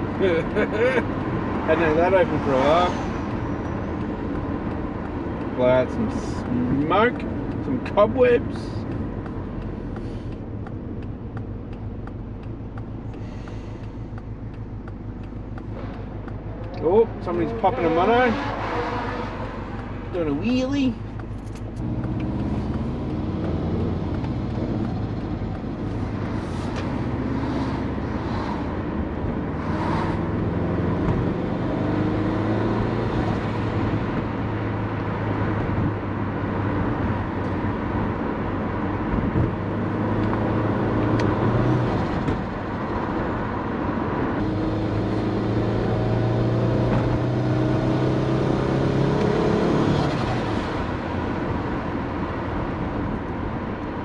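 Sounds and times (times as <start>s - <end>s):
turbocharged car engine accelerating: 0.0s - 54.0s.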